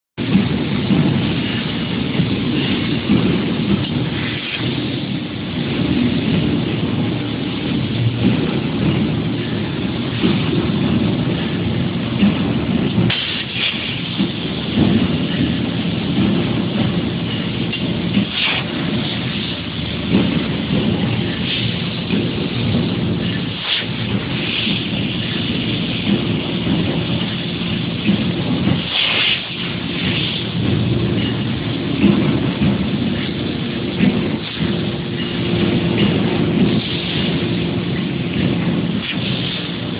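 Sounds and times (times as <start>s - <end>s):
laser cutting machine rumbling: 0.2s - 39.9s.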